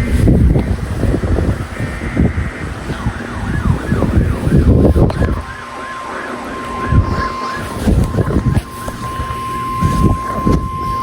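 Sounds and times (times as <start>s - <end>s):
low rumbling noise: 0.0s - 11.0s
siren yelping: 0.0s - 11.0s
steady high warning tone: 0.0s - 11.0s.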